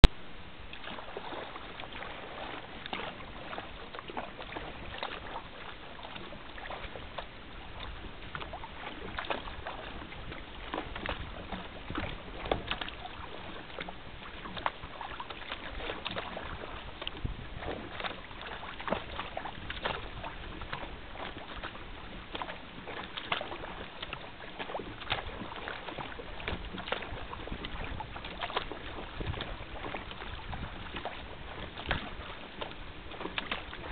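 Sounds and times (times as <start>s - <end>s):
water splashing against kayak hull: 0.0s - 33.9s.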